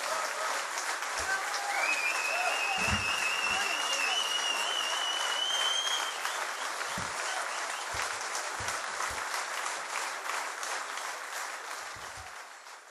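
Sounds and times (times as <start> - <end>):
audience applause: 0.0 - 12.9.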